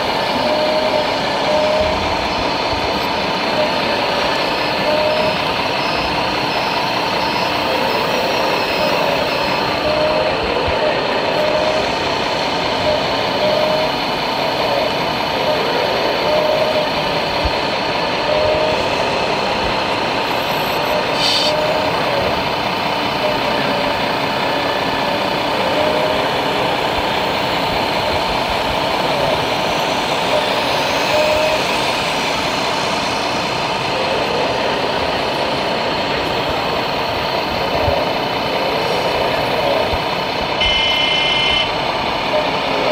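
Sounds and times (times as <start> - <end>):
crowd murmur: 0.0 - 42.9
model excavator motors whining: 0.0 - 42.9
model truck engine sound: 0.0 - 42.9.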